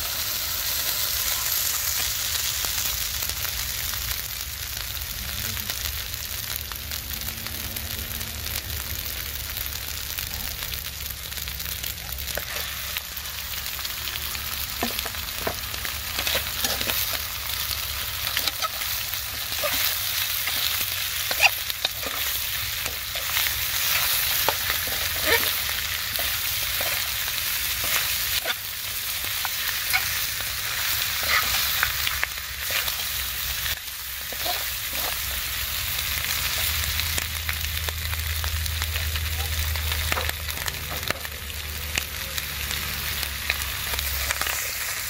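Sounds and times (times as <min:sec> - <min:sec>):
meat sizzling in a wok: 0:00.0 - 0:45.0.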